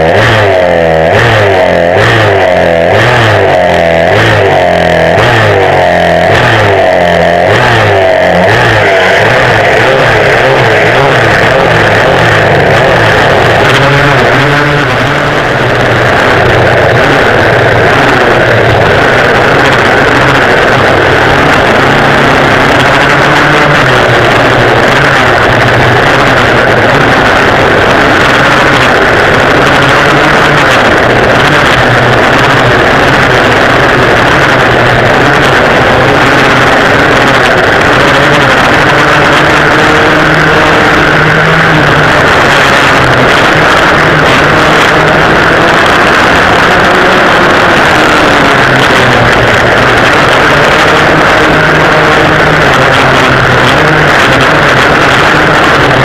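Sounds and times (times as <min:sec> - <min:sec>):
racing kart engines at full throttle: 0:00.0 - 0:56.0.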